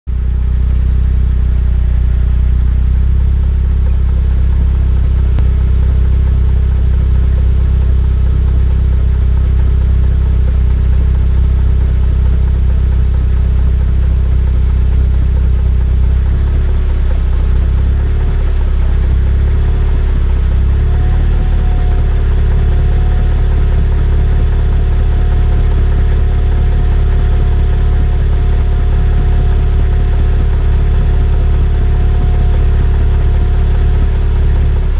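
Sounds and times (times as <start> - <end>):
drivetrain low hum: 0.1 - 34.9.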